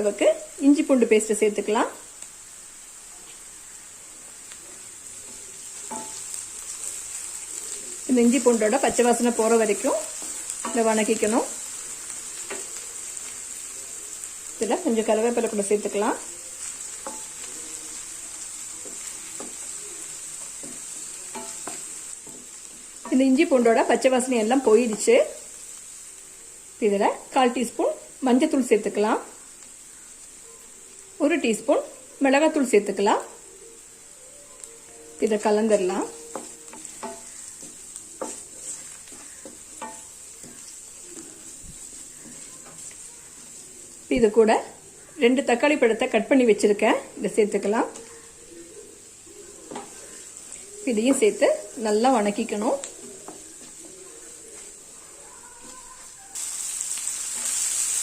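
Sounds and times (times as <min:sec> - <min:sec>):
onions sizzling in hot oil: 0:00.0 - 0:58.0.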